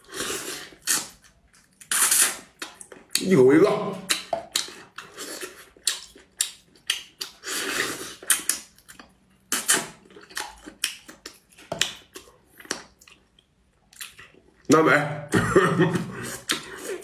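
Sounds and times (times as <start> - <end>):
crunching and chewing food: 0.0 - 14.7.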